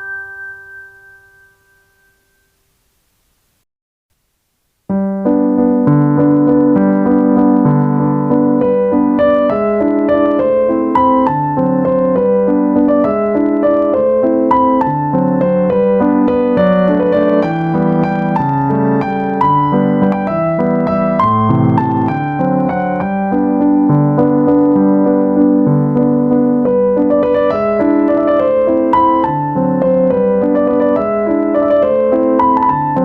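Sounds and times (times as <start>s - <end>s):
gentle piano music: 0.0s - 2.5s, 4.9s - 33.0s.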